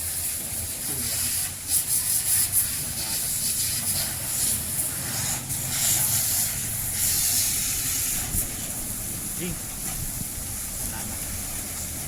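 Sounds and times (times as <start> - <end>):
pressure washer motor hum: 0.0 - 12.0
water spray hissing: 0.0 - 12.0.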